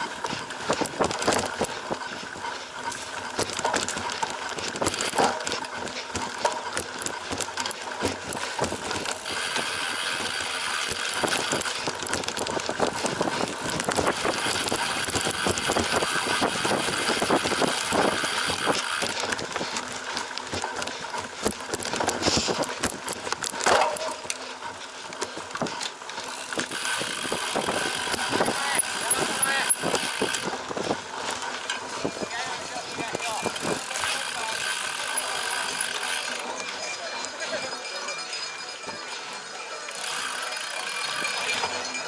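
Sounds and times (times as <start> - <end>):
bike rattling over bumpy ground: 0.0 - 42.0.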